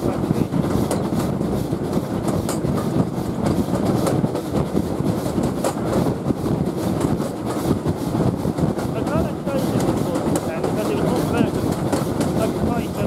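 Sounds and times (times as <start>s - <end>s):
train wheels rumbling on rail: 0.0s - 13.0s
wheels clicking over rail joints: 0.6s - 7.9s, 8.5s - 13.0s.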